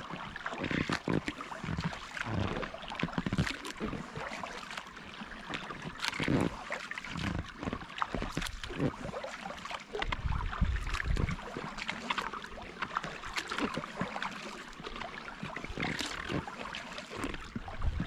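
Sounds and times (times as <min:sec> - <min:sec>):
kayak paddle strokes in water: 0:00.0 - 0:18.0
water splashing and dripping: 0:00.0 - 0:18.0.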